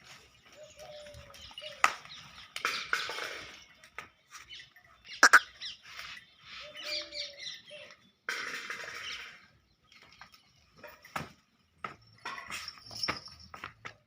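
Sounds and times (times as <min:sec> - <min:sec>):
small birds chirping: 0:00.0 - 0:13.5.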